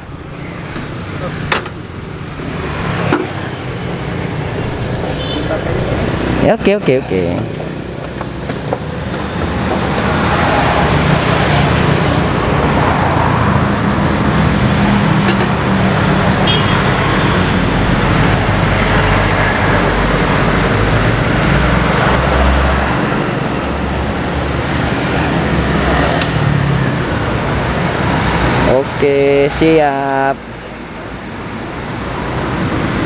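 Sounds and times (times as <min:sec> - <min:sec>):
vehicle engines: 0:00.0 - 0:33.0.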